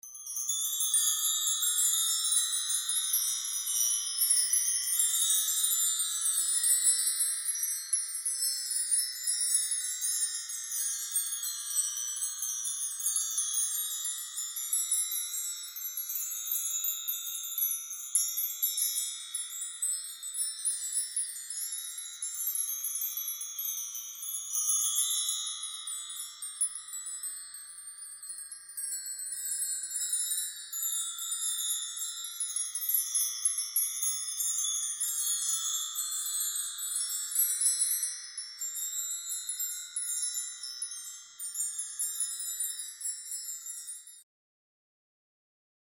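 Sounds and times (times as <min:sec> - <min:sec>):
wind chimes tinkling: 0:00.0 - 0:44.3.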